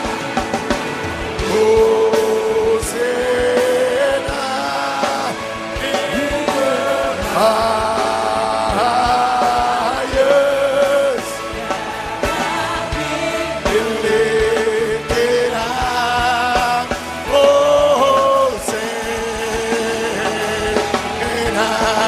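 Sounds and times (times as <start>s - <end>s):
band with percussion: 0.0s - 22.0s
voices singing: 1.3s - 22.0s.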